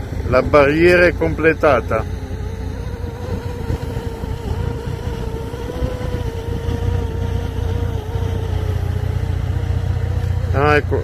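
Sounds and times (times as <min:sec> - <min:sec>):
motorboat engine running: 0:00.0 - 0:11.0
wind on microphone: 0:00.0 - 0:11.0.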